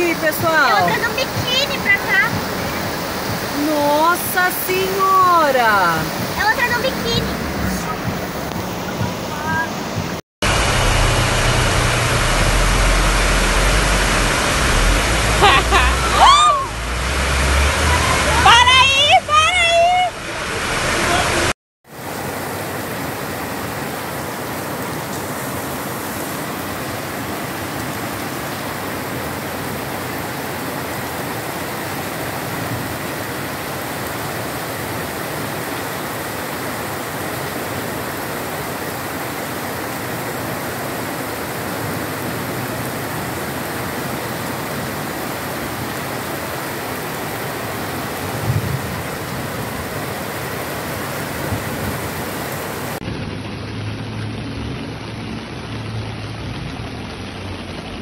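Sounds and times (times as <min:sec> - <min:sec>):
heavy rain on a wet street: 0:00.0 - 0:58.0.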